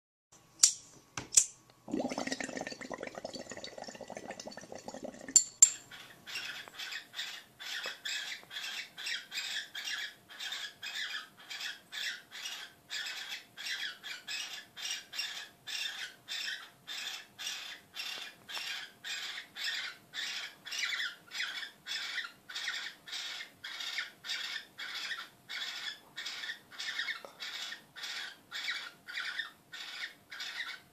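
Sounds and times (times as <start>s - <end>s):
bird squawking calls: 5.9s - 30.9s.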